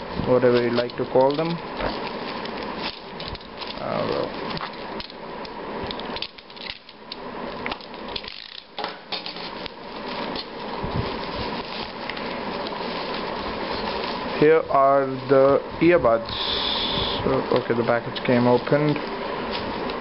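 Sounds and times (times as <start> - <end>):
plastic wrap crinkling: 0.0 - 15.5, 17.4 - 20.0.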